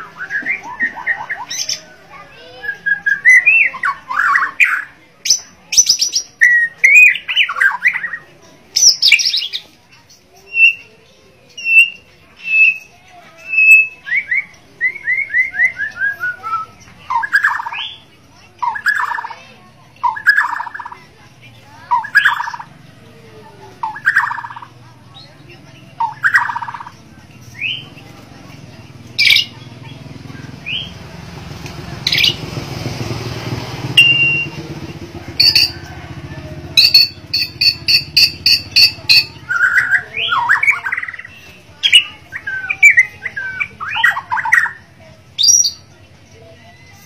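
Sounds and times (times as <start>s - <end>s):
bird singing varied phrases: 0.0s - 22.7s, 23.7s - 28.0s, 29.1s - 31.0s, 32.0s - 32.4s, 34.0s - 34.6s, 35.4s - 36.0s, 36.8s - 46.0s.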